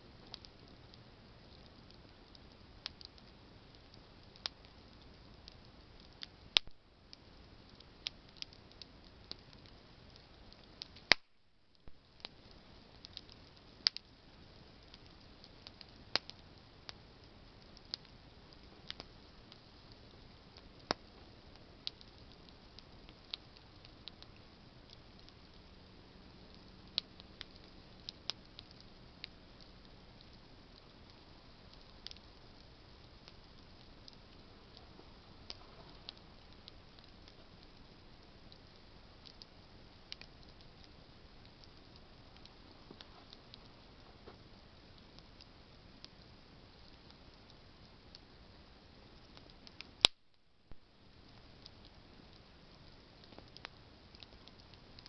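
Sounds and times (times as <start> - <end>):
campfire hissing: 0.0 - 55.0
campfire snaps and pops: 0.1 - 55.0.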